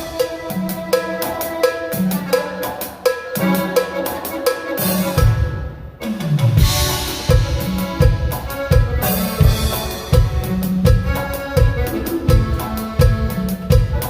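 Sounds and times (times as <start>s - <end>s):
drum kit playing: 0.0s - 14.0s
instrumental music: 0.0s - 14.0s.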